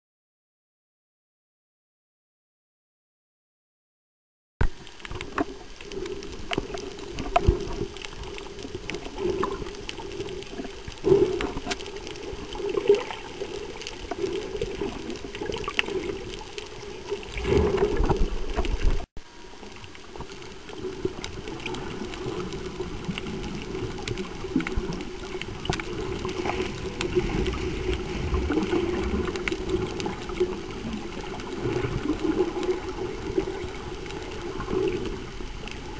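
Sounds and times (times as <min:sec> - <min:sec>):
underwater gurgling and sloshing: 0:04.6 - 0:35.9.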